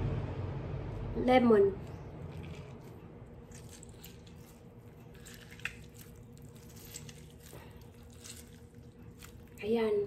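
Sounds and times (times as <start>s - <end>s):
lemon squishing: 1.8s - 10.0s.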